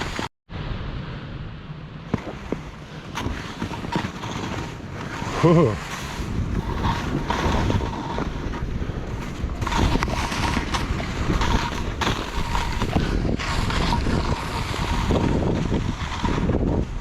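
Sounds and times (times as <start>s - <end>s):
skis scraping through snow: 0.0s - 0.3s, 2.1s - 17.0s
wind buffeting microphone: 2.0s - 17.0s.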